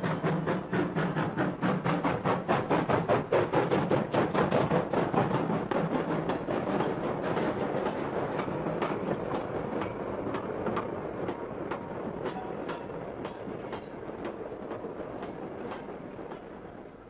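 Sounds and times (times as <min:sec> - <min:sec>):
train rumble: 0:00.0 - 0:17.0
wheels clicking over rail joints: 0:00.0 - 0:17.0.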